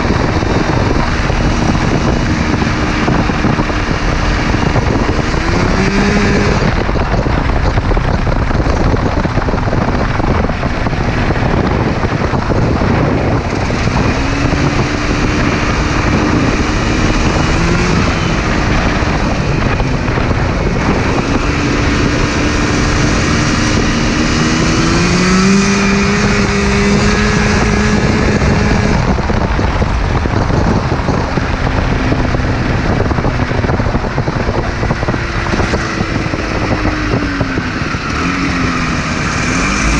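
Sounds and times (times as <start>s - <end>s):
two-stroke engine running at speed: 0.0s - 39.9s
wind and road rushing noise: 0.0s - 39.9s.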